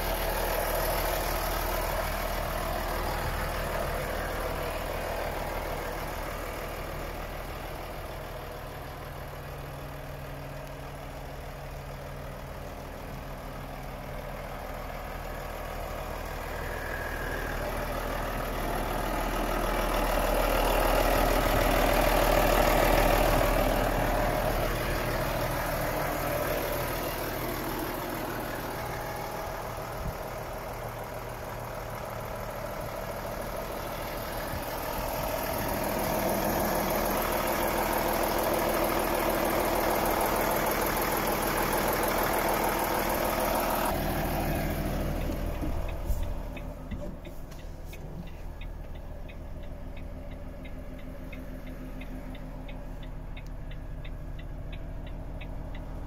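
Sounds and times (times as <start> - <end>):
diesel truck engine idling: 0.0 - 56.0
steady ticking in cab: 0.0 - 56.0.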